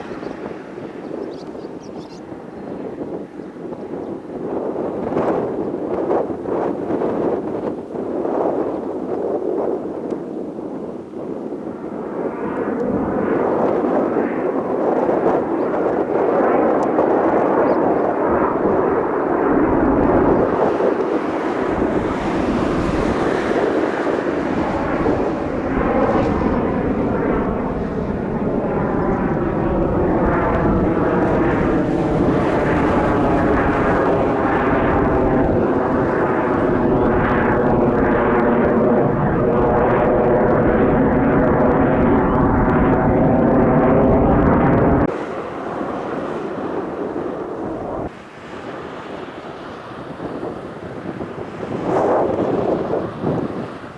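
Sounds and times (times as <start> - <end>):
jet aircraft flying over: 0.0 - 53.9.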